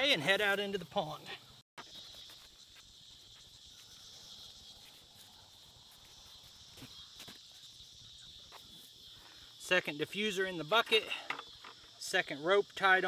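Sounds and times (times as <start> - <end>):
faint insect chorus: 0.0 - 13.0.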